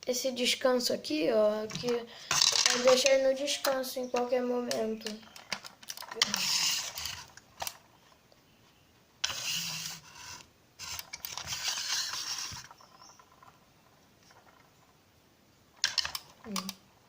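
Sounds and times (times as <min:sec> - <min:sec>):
rubbing and scraping of plastic model: 0:01.3 - 0:15.0.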